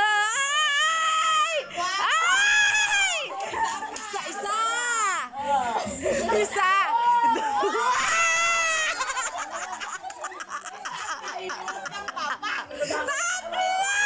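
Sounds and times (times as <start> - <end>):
people laughing: 1.5 - 14.0.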